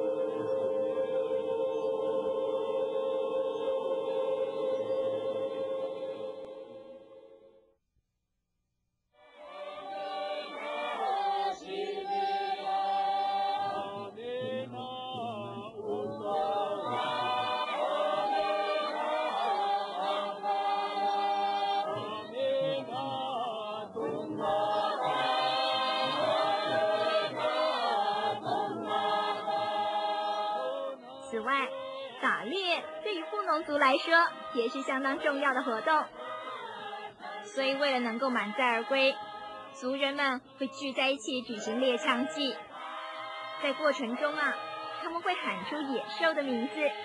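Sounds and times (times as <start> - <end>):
voices chanting together: 0.0 - 7.6, 9.2 - 47.0.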